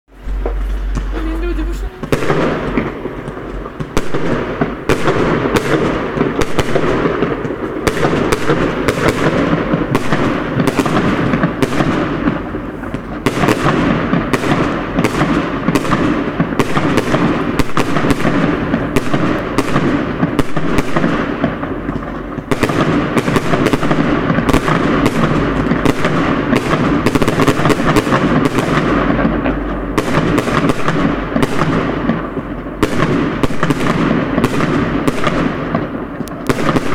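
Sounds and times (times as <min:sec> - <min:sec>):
fireworks bangs and crackling: 0:00.1 - 0:36.9.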